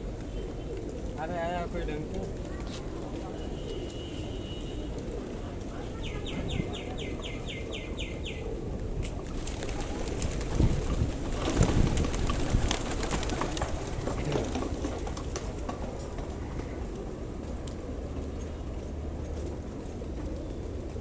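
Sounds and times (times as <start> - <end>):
birds flapping wings: 0.1 - 7.0, 8.5 - 21.0.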